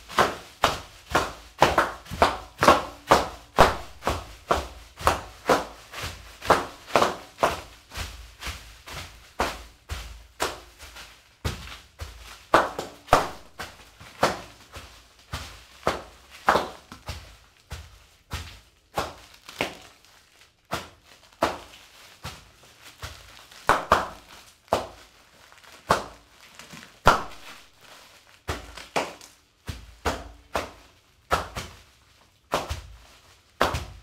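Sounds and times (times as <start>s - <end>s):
bare feet stamping on foil wrappers: 0.0s - 34.0s.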